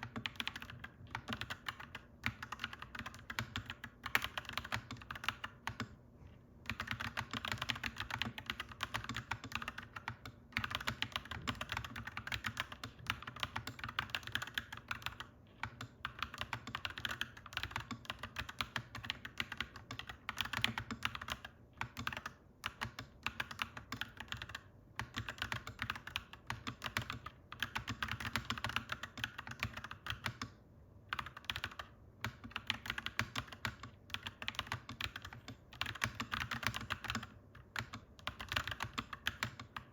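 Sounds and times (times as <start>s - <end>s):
mechanical keyboard typing: 0.0s - 6.0s, 6.6s - 39.9s.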